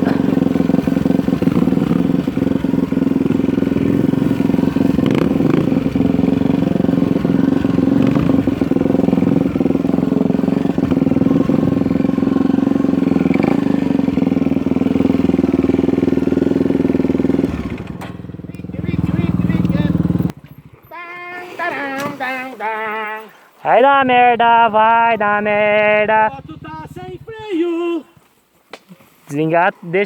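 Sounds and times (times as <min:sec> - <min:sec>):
dirt bike engine running: 0:00.0 - 0:20.8, 0:24.1 - 0:27.9.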